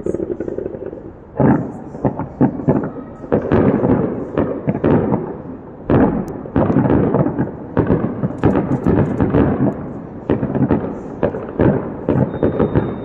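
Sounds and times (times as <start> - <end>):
rumbling echoes: 0.0 - 12.2
fireworks booming and banging: 0.0 - 13.0.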